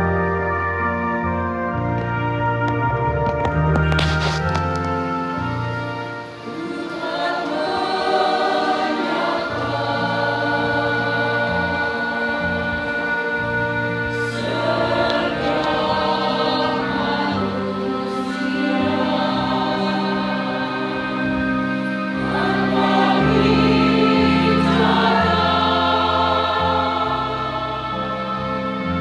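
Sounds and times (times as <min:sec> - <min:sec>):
church choir singing: 0:00.0 - 0:02.4, 0:03.8 - 0:29.0
electronic organ chords: 0:00.0 - 0:29.0.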